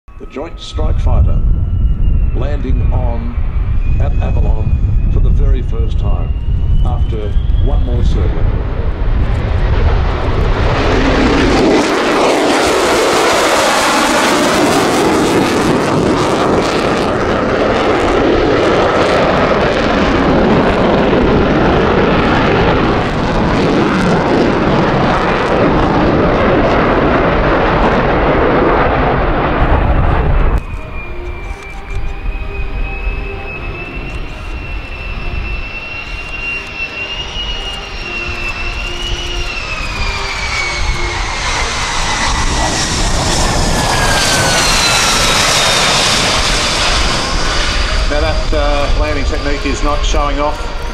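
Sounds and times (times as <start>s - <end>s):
high turbine whine: 0.1s - 50.9s
jet passing overhead: 0.1s - 50.9s.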